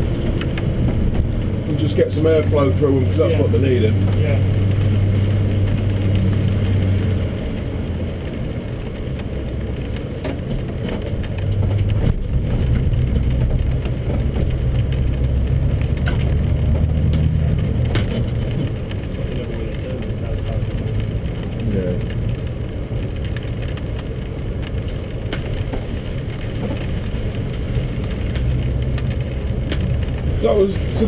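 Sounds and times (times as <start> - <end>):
car engine at light throttle: 0.0 - 31.0
tyre and road noise: 0.0 - 31.0.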